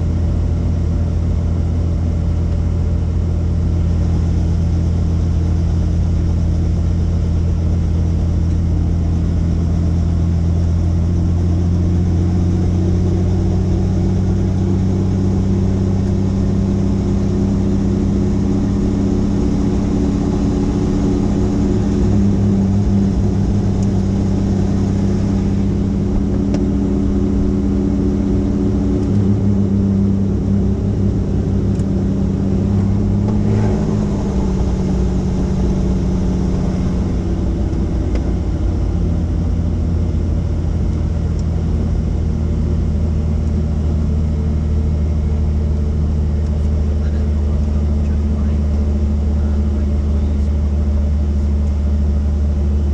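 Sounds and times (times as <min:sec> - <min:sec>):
helicopter engine and rotors: 0:00.0 - 0:52.9.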